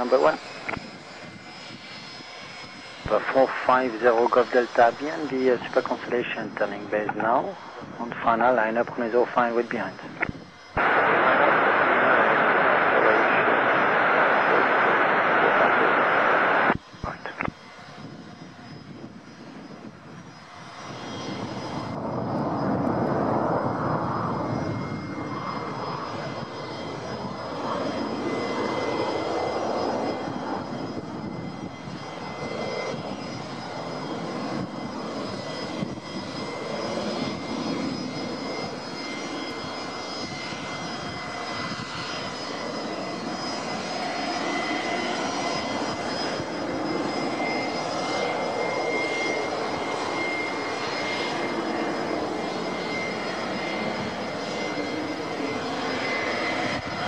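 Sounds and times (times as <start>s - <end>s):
propeller airliner engines running: 0.0s - 57.0s.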